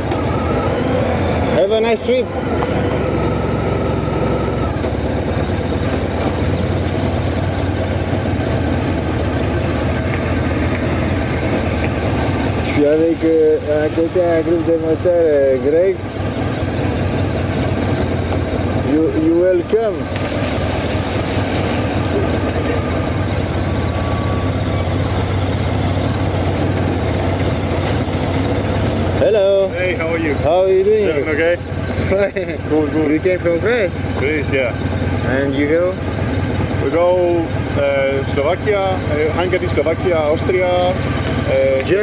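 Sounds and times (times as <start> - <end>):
motorcycle engine low rumble: 0.0 - 42.0.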